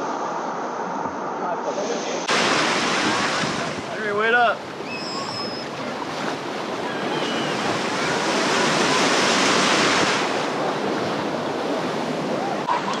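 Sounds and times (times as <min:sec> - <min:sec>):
surf breaking: 0:00.0 - 0:13.0.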